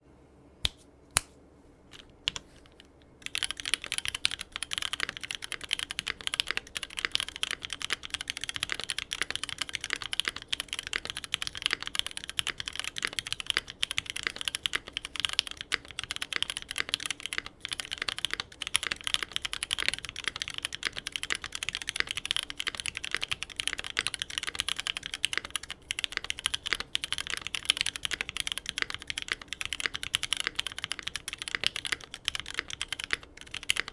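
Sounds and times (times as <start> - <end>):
typing on mechanical keyboard: 2.0 - 33.9.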